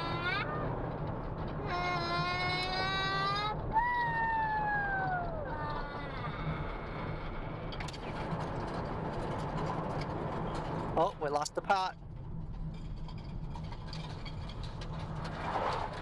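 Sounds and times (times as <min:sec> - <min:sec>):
low road rumble inside car: 0:00.0 - 0:16.0.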